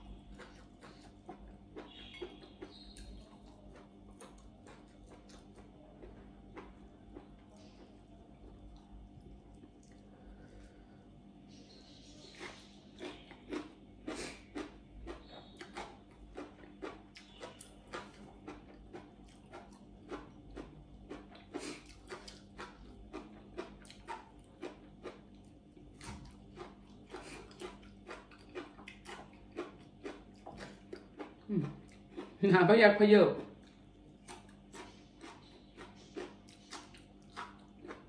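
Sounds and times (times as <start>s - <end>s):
person chewing food: 0.0s - 32.4s, 33.4s - 38.0s.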